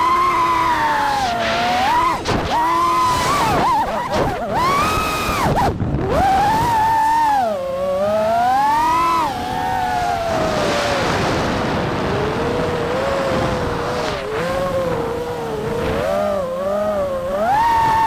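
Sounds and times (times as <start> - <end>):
quadcopter motors whining: 0.0 - 18.0
wind noise: 0.0 - 18.0.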